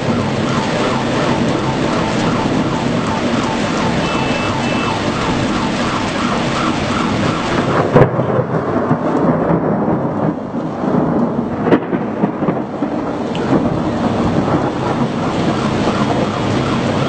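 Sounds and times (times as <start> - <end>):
sharp thunder crack: 0.0 - 17.0
thunder rumbling: 0.0 - 17.0.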